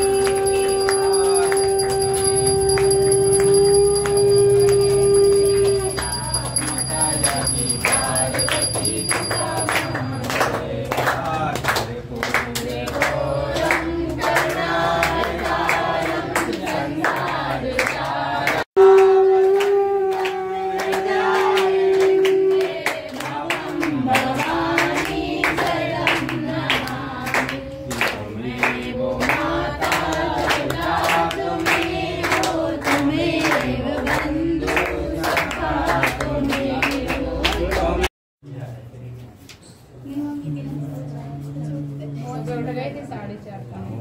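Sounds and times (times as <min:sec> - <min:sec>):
group of people singing: 0:00.0 - 0:38.1
rhythmic hand clapping: 0:00.0 - 0:38.1.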